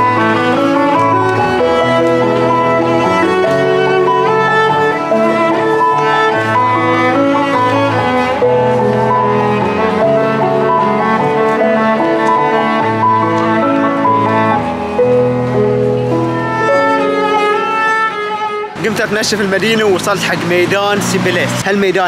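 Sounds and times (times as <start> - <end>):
cello and violin music: 0.0 - 22.0.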